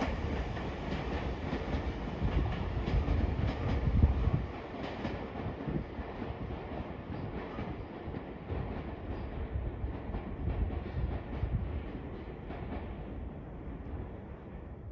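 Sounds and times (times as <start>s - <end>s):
train rolling rumble: 0.0s - 14.9s.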